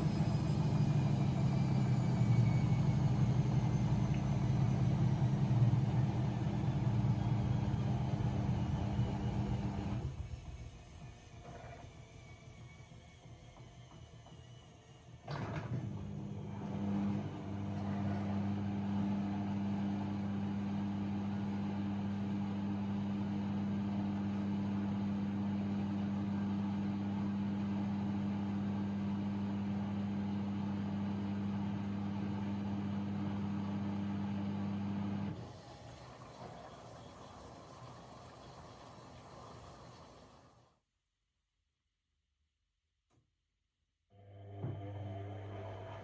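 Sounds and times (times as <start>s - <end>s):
washing machine pump humming: 0.0s - 40.7s, 44.4s - 46.0s.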